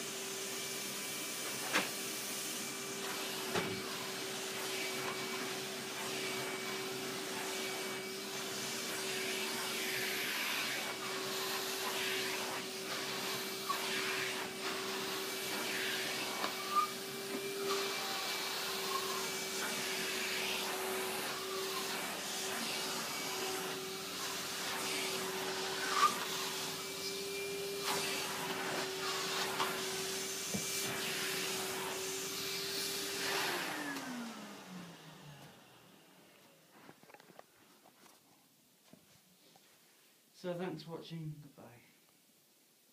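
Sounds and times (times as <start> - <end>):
vacuum cleaner running: 0.0 - 36.6.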